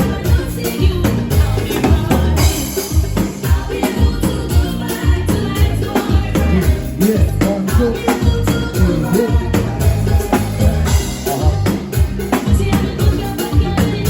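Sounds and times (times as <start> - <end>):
live band playing: 0.0 - 14.0
person singing: 0.0 - 14.0
kick drum beat: 0.3 - 13.8.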